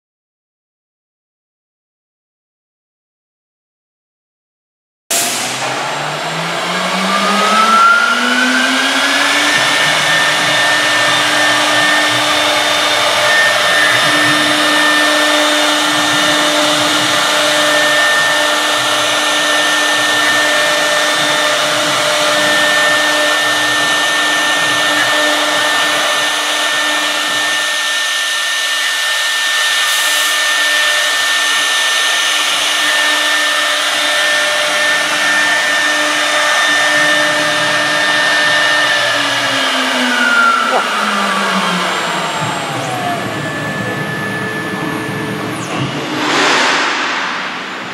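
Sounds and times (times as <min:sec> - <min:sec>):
router spindle whine: 0:05.6 - 0:46.0.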